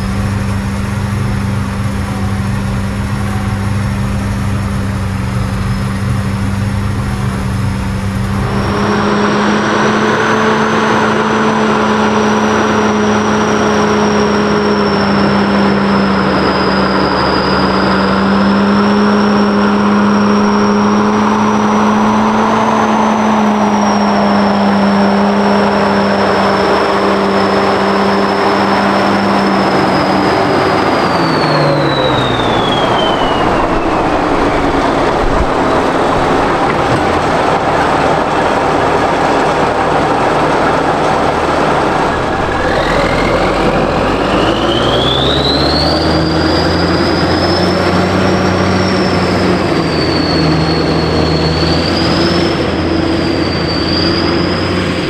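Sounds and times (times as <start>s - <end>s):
high engine whine: 0.0s - 55.0s
tractor diesel engine running: 0.0s - 55.0s.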